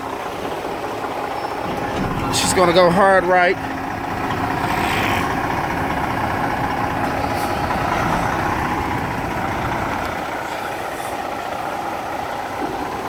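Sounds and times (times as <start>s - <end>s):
diesel truck engine running: 0.6s - 13.0s.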